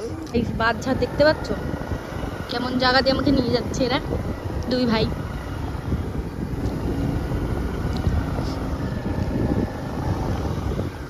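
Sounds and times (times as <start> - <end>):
vehicle rumbling on rough track: 0.0 - 11.0
wind buffeting microphone: 0.0 - 11.0.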